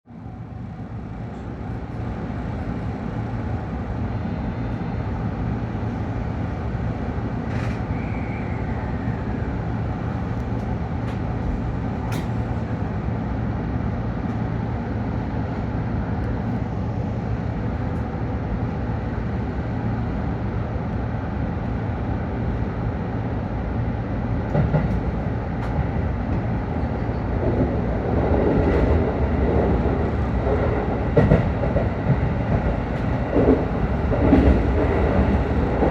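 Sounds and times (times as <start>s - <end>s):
electric train rumble: 0.1s - 35.9s.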